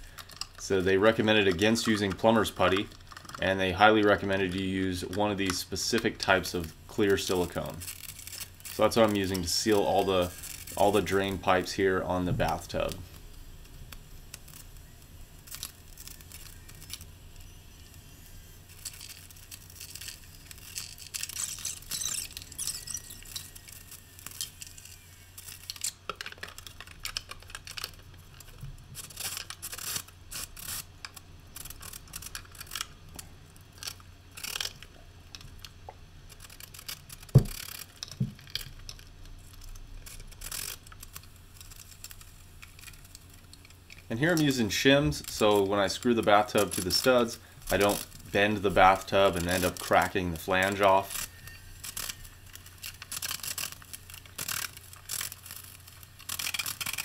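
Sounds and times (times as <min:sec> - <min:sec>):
clicks scrapes and rustles: 0:00.0 - 0:11.6, 0:18.3 - 0:57.0
steady low hum: 0:00.0 - 0:57.0.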